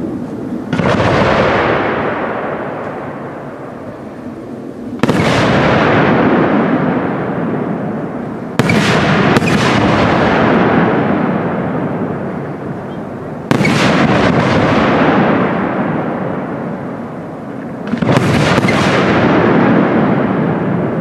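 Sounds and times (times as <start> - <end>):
firework booms with rolling echo: 0.0 - 21.0.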